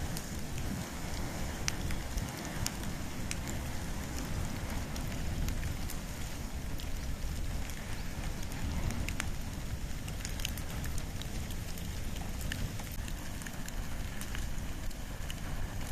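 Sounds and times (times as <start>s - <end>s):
campfire flame rumbling: 0.0s - 15.9s
fire crackles and pops: 0.0s - 15.9s.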